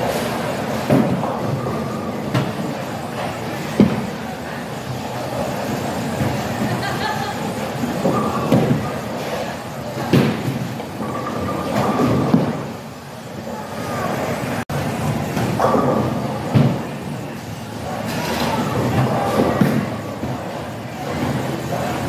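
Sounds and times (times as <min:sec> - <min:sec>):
bowling balls rolling on lanes: 0:00.0 - 0:22.0.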